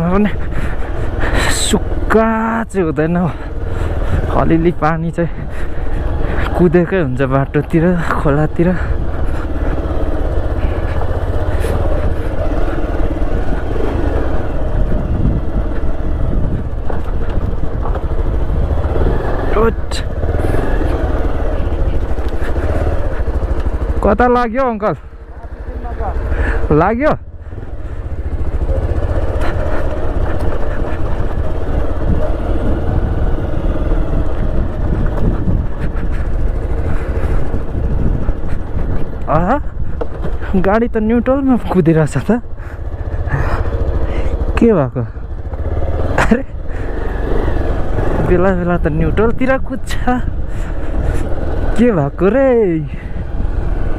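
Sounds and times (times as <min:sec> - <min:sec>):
motorcycle engine rumble: 0:00.0 - 0:53.9
wind and road noise: 0:00.0 - 0:53.9.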